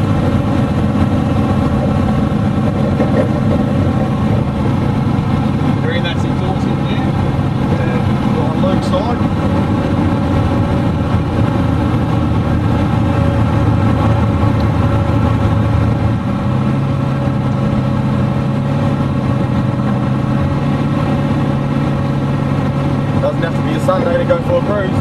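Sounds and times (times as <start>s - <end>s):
car engine cruising: 0.0s - 25.0s.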